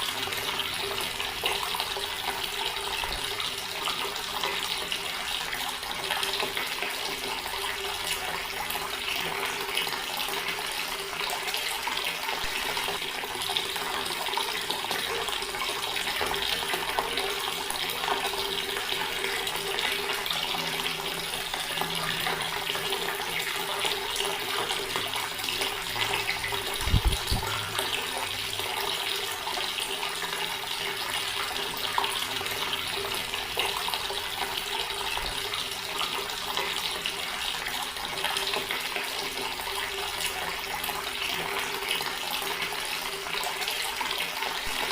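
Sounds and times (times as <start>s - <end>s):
tap water splashing into basin: 0.0s - 44.9s.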